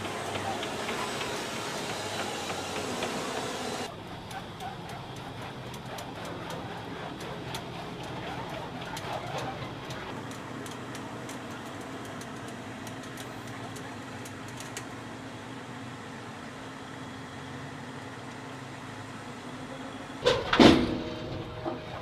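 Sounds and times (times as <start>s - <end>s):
vehicle engine running: 0.0s - 20.2s.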